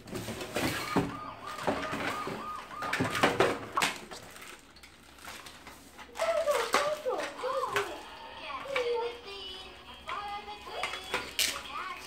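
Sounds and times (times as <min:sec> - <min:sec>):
plastic toy parts clattering: 0:00.0 - 0:08.0, 0:10.0 - 0:12.0.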